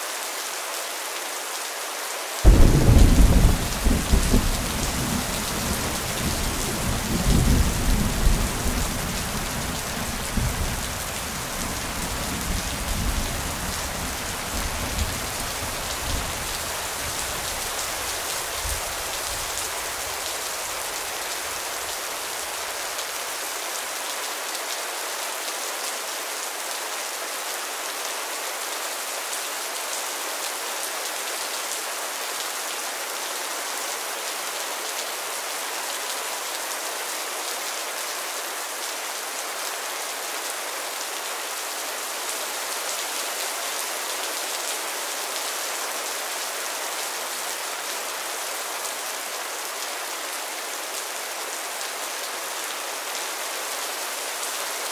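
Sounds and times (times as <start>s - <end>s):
rain falling on leaves: 0.0s - 54.9s.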